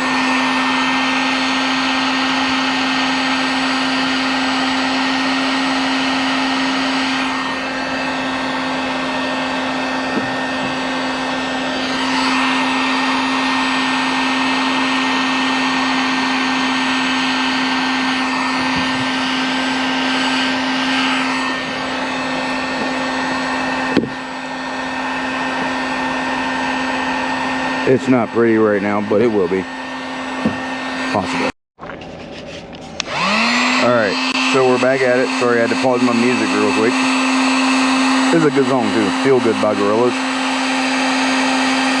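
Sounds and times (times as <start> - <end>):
heat gun blowing air: 0.0 - 31.6, 32.6 - 42.0.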